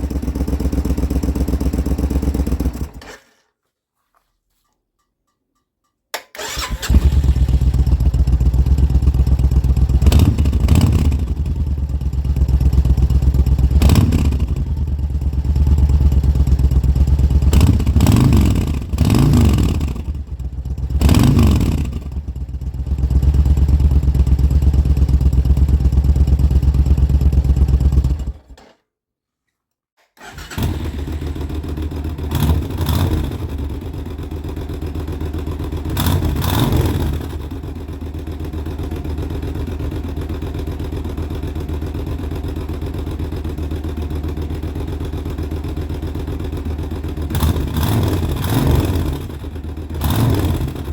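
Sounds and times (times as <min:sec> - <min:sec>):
motorcycle engine idling and revving: 0:00.0 - 0:03.2, 0:06.4 - 0:28.6, 0:30.2 - 0:50.9.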